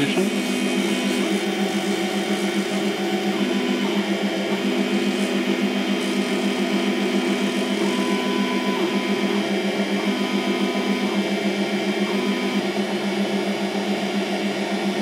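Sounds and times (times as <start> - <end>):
motor spinning drill humming: 0.0 - 15.0.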